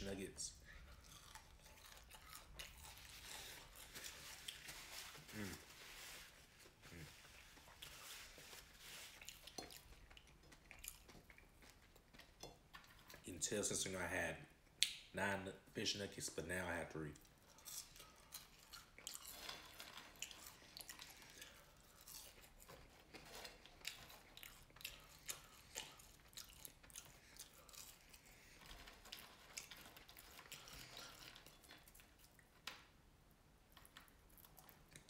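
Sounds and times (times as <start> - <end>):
chewing and crunching: 0.0 - 13.3, 17.1 - 33.0, 33.7 - 35.0.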